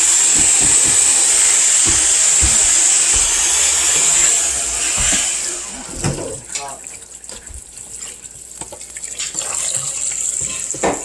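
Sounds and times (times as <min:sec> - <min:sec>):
tap running into sink: 0:00.0 - 0:06.6, 0:08.6 - 0:11.0.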